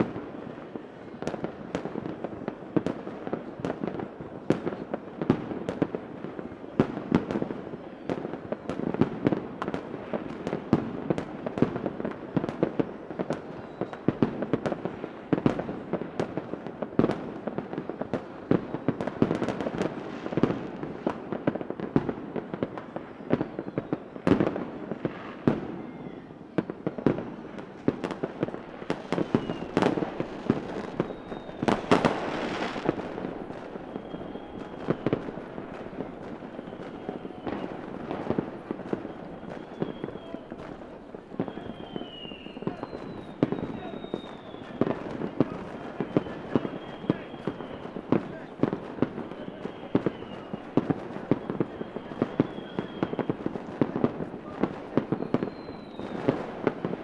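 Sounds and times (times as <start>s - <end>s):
fireworks cracking and popping: 0.0s - 57.0s
rising firework whistles: 0.0s - 57.0s.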